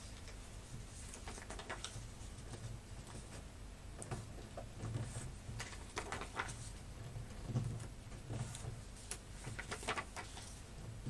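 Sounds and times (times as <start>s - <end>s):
paper creasing and rustling: 0.0s - 10.7s.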